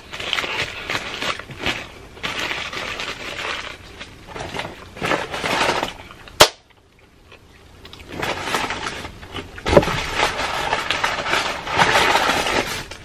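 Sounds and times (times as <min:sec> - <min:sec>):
crunching and chewing food: 0:00.0 - 0:13.0.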